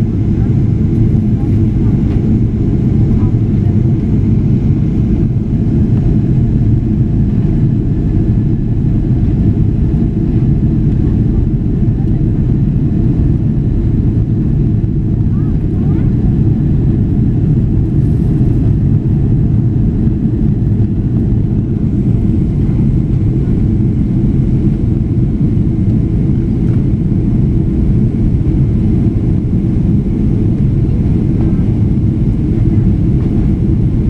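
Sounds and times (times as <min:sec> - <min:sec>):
airliner cabin roar: 0:00.0 - 0:34.0.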